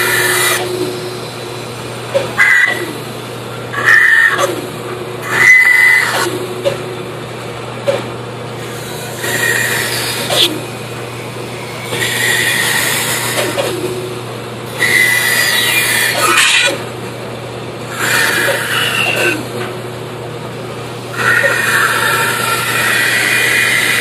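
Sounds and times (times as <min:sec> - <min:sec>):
band saw motor hum: 0:00.0 - 0:24.0.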